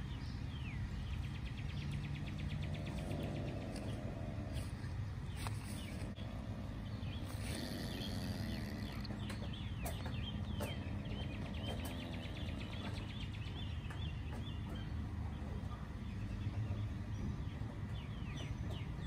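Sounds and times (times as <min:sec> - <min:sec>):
steady low rumble: 0:00.0 - 0:18.4
birds chirping: 0:00.0 - 0:19.0.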